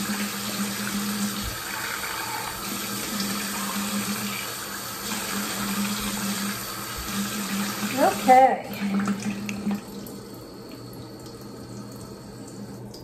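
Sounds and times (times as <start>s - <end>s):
faucet running water: 0.0s - 13.0s.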